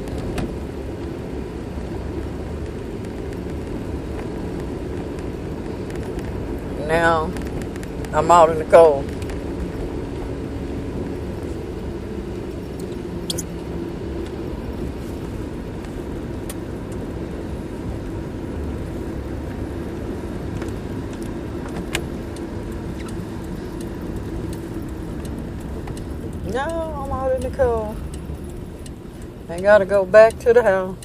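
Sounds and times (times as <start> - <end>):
car cabin rumble: 0.0 - 31.0.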